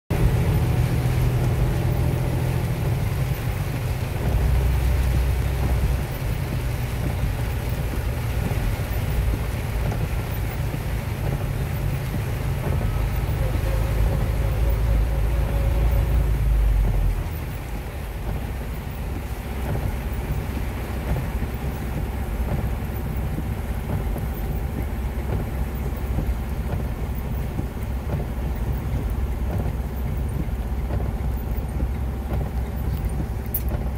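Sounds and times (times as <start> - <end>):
deep thunder rumble: 0.1 - 33.9
heavy rain on car roof: 0.1 - 33.9.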